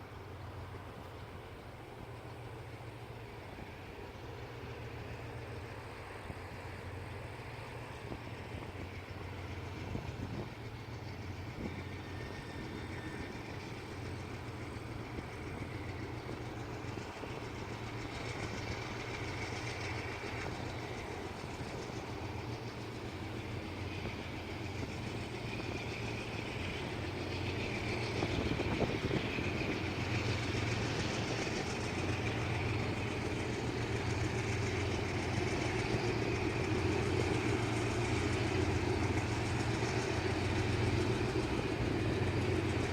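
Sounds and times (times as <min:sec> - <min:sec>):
locomotive engine droning: 0:00.0 - 0:42.9.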